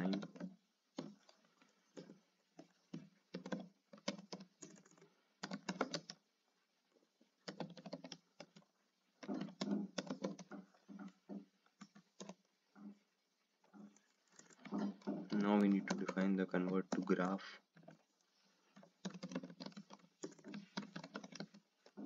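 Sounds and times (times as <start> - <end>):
computer keyboard typing: 0.0 - 6.3, 7.4 - 13.0, 13.8 - 22.0.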